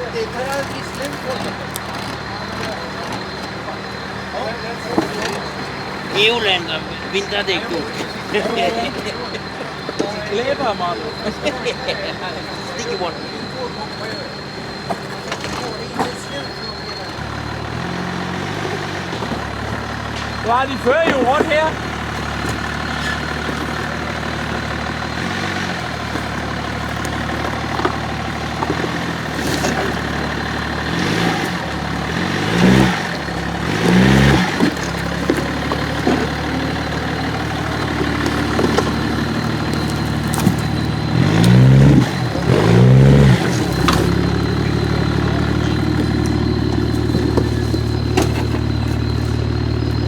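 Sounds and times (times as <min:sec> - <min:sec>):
engine idling with throttle blips: 0:00.0 - 0:50.0.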